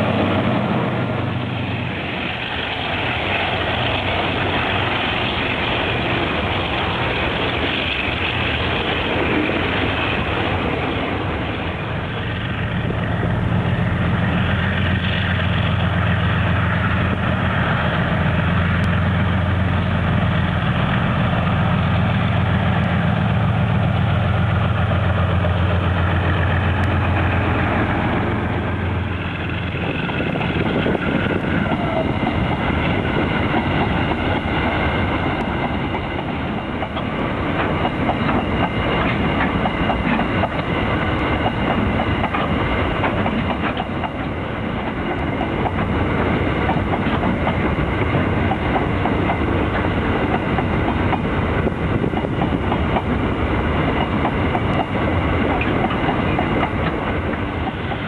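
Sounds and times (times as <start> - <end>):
locomotive engine drone: 0.0 - 58.0
train wheels clickety-clack: 0.0 - 58.0.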